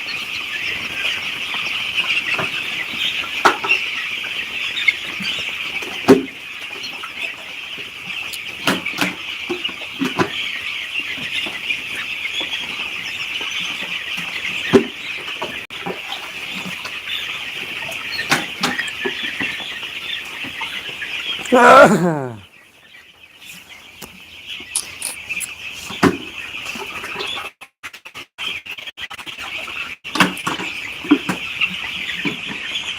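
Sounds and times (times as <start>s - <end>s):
flock of chicks peeping: 0.0s - 21.4s, 22.5s - 32.9s.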